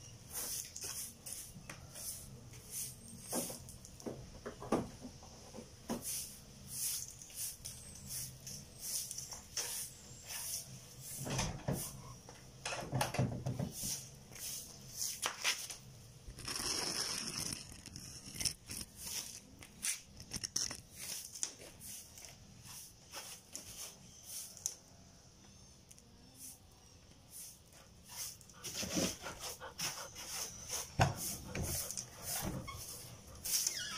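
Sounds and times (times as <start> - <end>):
broom sweeping concrete floor: 0.0 - 4.0, 5.8 - 12.2, 13.5 - 17.2, 18.3 - 20.1, 20.8 - 24.8, 26.2 - 33.9.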